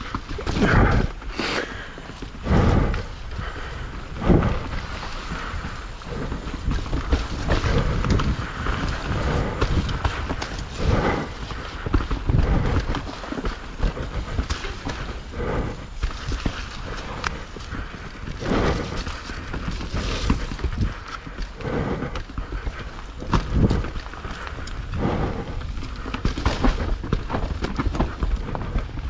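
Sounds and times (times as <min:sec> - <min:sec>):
mountain bike rattling: 0:00.0 - 0:29.0
heavy thuds over roots: 0:00.2 - 0:29.0
tyres rumbling: 0:00.5 - 0:29.0
wind buffeting microphone: 0:02.0 - 0:29.0.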